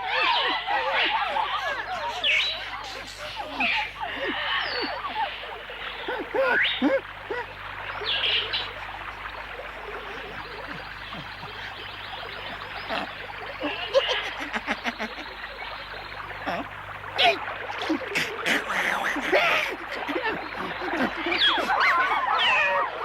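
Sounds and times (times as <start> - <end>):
monkeys chattering: 0.0 - 23.0
running water: 0.0 - 23.0.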